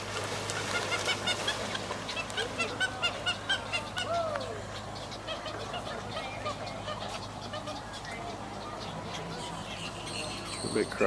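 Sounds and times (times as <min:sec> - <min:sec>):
herons calling: 0:00.3 - 0:11.0.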